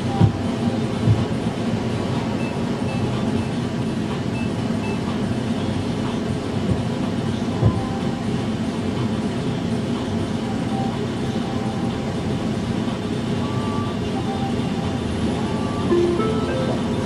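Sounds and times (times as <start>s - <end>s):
tram pulling away: 0.0s - 17.0s
tram rumble and hum: 0.0s - 17.0s.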